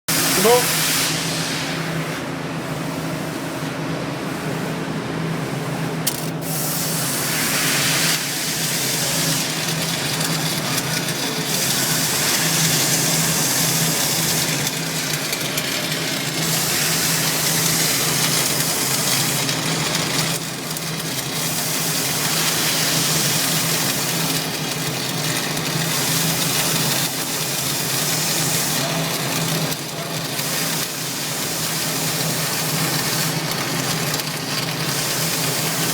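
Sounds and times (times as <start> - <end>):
welding arc crackling: 0.1 - 1.4, 6.1 - 35.9
welding machine hum: 0.1 - 35.9.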